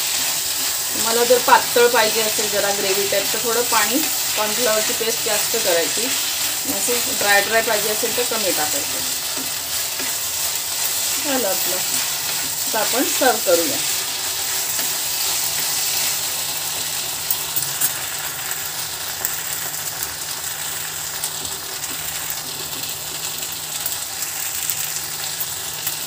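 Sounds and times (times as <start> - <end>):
chicken sizzling in a wok: 0.0 - 26.0.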